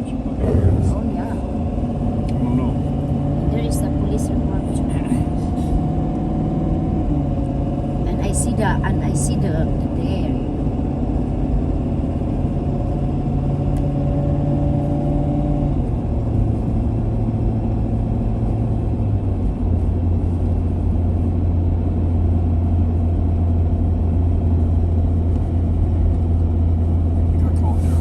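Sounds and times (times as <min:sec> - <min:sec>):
vehicle engine hum and rumble: 0:00.0 - 0:28.0.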